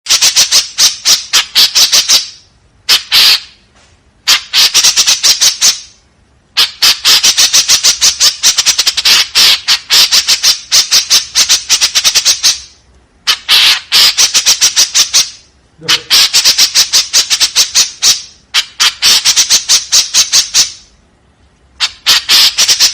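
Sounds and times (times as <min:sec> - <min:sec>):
bird harsh rasping calls: 0:00.1 - 0:03.6, 0:04.3 - 0:05.9, 0:06.6 - 0:20.9, 0:21.8 - 0:22.9.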